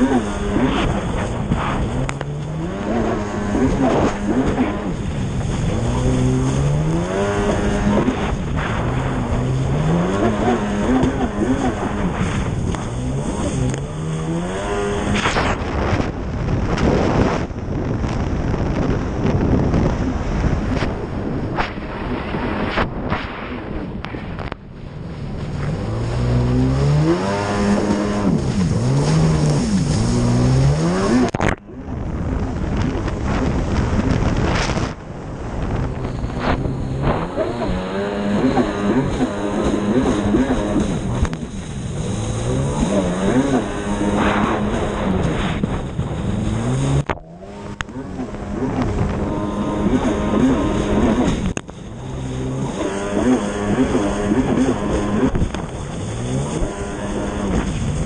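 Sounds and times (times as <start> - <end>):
rushing water and wind: 0.0 - 58.0
watercraft engine revving: 0.0 - 58.0.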